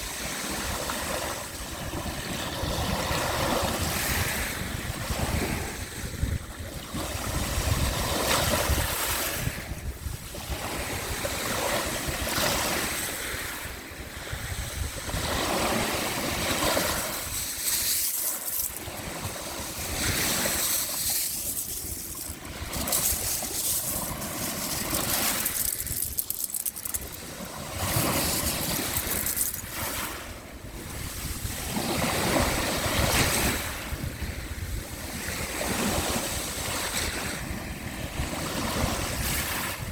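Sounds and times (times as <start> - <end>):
sea waves washing onto shore: 0.1 - 39.9.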